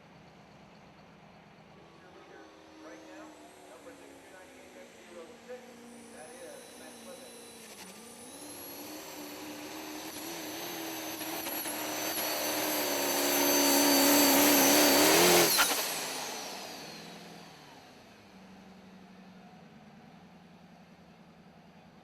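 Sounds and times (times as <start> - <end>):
diesel truck engine at full throttle: 1.0 - 22.0.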